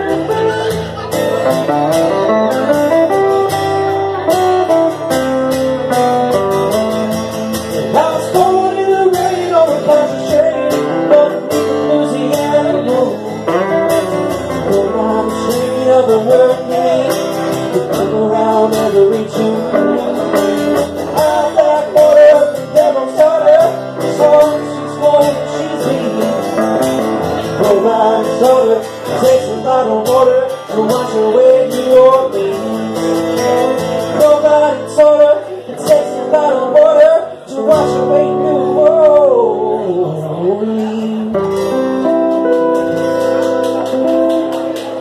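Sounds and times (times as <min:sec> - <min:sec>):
electric guitar lead with bent notes: 0:00.0 - 0:45.0
strummed guitar: 0:00.0 - 0:45.0.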